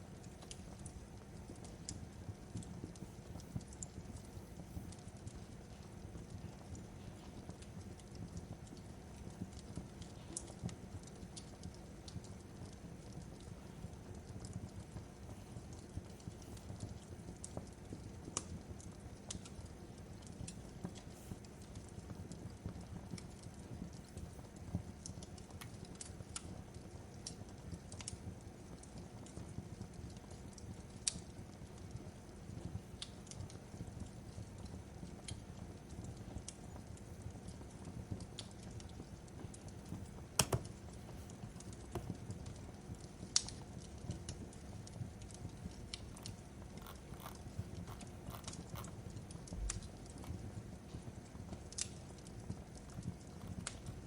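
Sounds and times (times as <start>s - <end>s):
burning wood hiss and rumble: 0.0s - 54.0s
fire popping and crackling: 0.0s - 54.0s.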